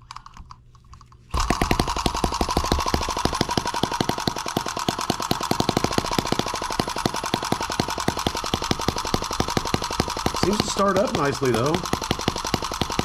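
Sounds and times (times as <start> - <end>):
model engine running with sharp pops: 1.3 - 13.0.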